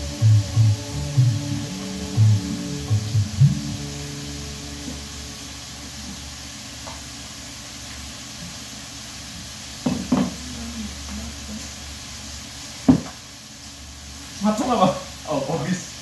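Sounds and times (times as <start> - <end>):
room hiss and hum: 0.0 - 16.0.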